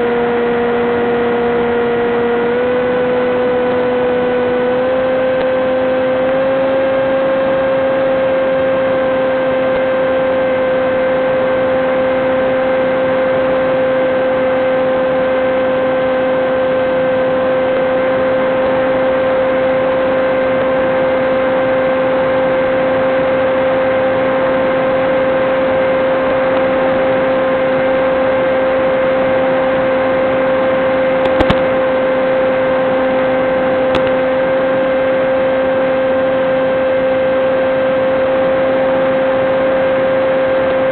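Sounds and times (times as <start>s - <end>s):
electric motor and propeller droning: 0.0s - 40.9s.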